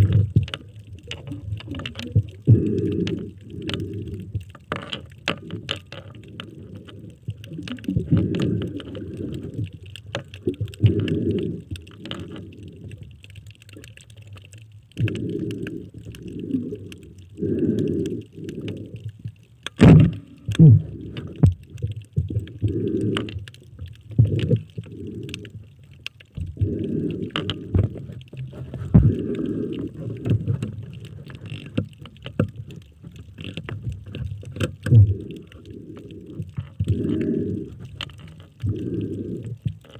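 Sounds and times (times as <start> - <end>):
faint high crackle: 0.0 - 39.9
muffled underwater rumbling: 0.0 - 39.9.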